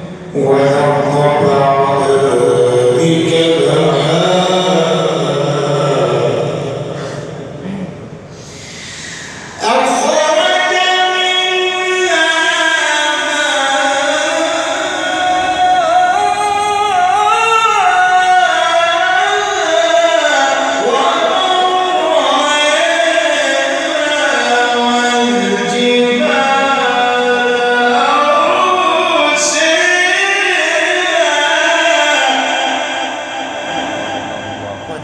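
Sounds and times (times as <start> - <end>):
man reciting melodic chant: 0.0 - 35.0.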